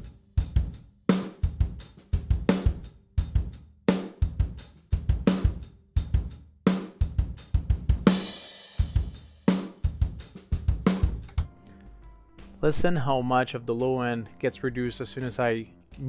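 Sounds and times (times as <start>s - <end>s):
drum kit groove: 0.0s - 16.0s.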